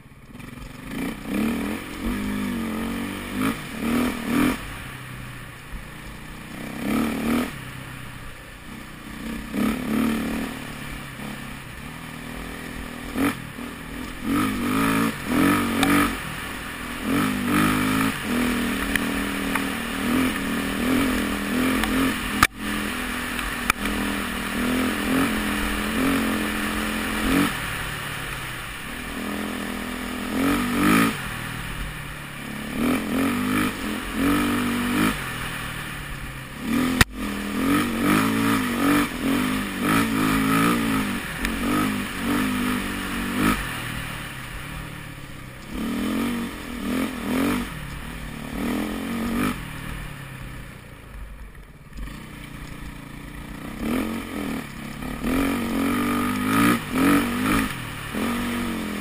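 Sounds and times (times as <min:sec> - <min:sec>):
dirt bike engine revving: 0:00.3 - 0:50.8, 0:51.9 - 0:59.0.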